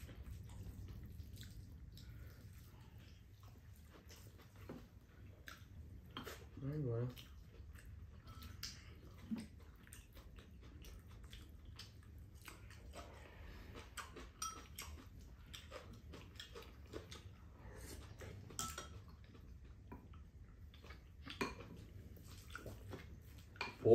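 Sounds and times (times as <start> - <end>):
chewing: 0.0 - 23.9.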